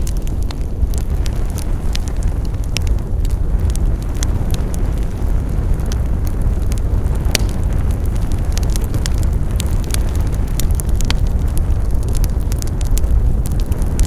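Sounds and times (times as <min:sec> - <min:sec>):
fire crackling and popping: 0:00.0 - 0:14.0
wood fire roaring: 0:00.0 - 0:14.0.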